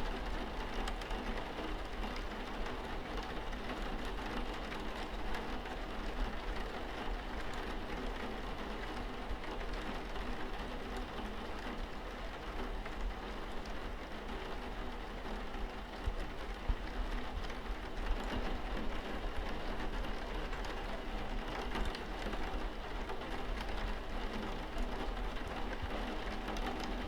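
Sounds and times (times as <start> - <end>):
steady rain falling: 0.1 - 27.0.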